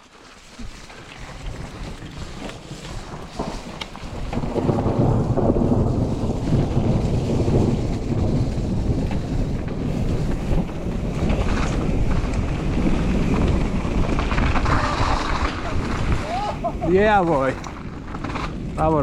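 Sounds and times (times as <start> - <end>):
wind buffeting microphone: 0.6 - 19.0.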